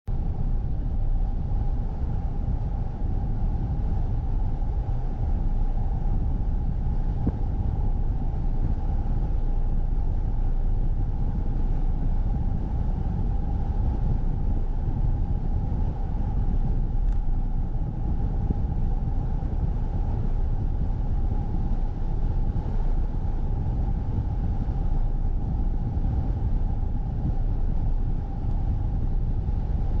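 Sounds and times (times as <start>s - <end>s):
car tyres and engine rumble: 0.0s - 30.0s
mid-pitched hum: 0.0s - 30.0s.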